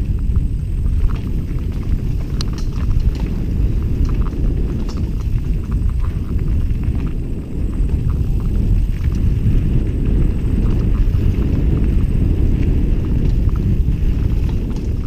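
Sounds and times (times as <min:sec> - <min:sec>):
bike rattling over stones: 0:00.0 - 0:15.0
wind noise on microphone: 0:00.0 - 0:15.0.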